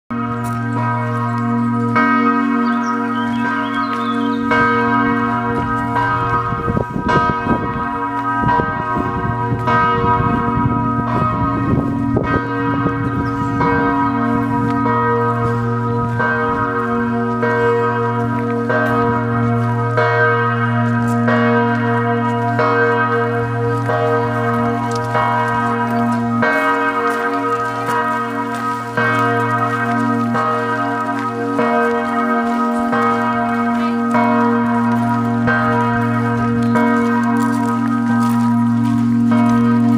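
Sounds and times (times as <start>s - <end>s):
church bells pealing: 0.1s - 39.9s.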